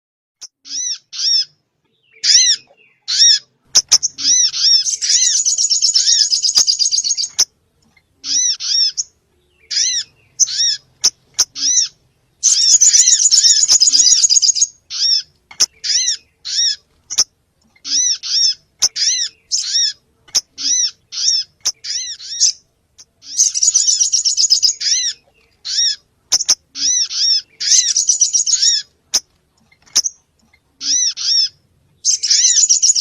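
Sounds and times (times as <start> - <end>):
high arched bird chirps: 0.4 - 33.0
rapid chattering bird trills: 0.7 - 33.0.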